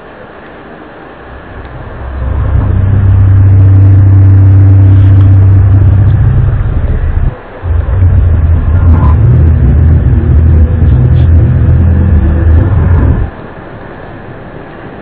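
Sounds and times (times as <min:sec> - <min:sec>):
loud low drone: 0:01.1 - 0:15.0.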